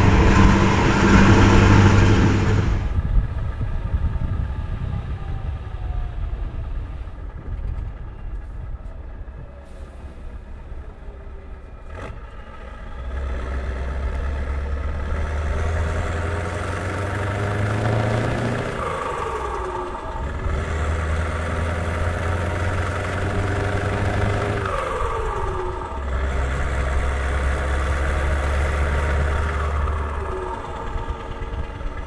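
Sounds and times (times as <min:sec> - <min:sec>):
truck engine revving: 0:00.0 - 0:04.8, 0:10.0 - 0:32.0.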